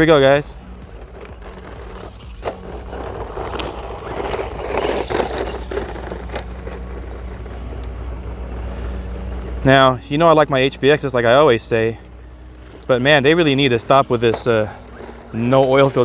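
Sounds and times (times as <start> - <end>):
tyres crunching on dirt: 0.0 - 16.0.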